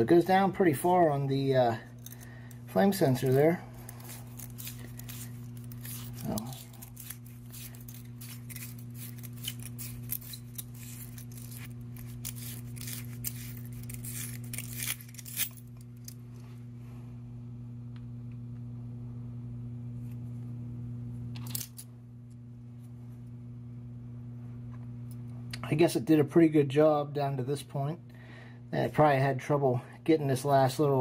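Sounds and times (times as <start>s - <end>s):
low hum: 0.0s - 25.6s.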